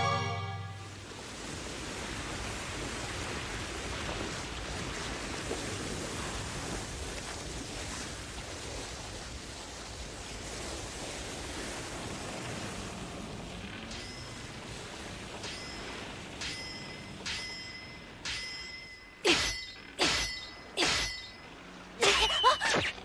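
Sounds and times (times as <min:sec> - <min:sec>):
sea waves: 0:00.0 - 0:23.0.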